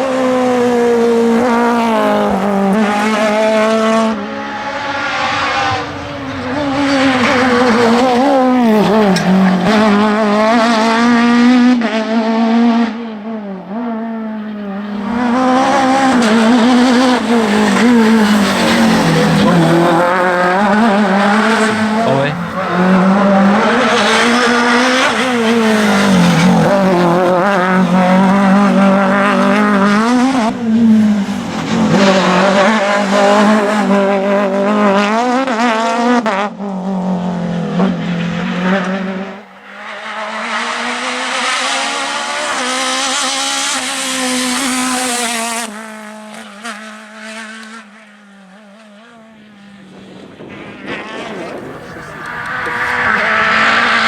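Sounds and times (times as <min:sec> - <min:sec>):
rally car engine revving hard: 0:00.0 - 0:54.0.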